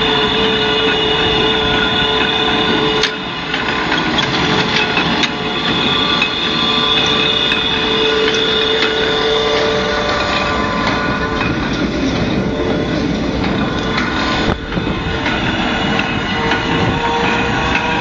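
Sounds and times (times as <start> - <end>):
steady machine whine: 0.0 - 18.0.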